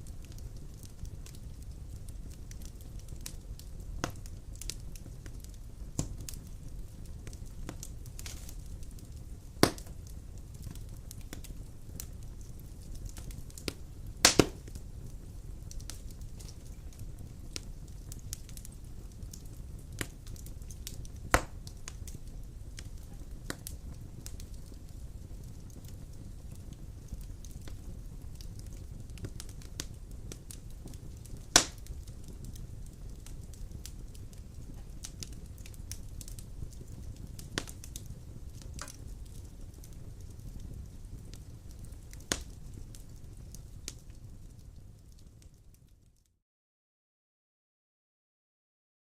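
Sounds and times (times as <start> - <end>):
fire rumbling: 0.0 - 46.2
wood crackling and popping: 0.0 - 46.2.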